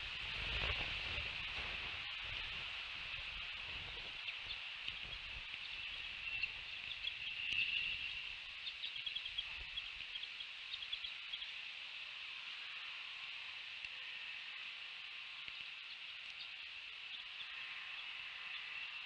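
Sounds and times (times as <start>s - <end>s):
high-pitched outdoor hiss: 0.0s - 19.0s.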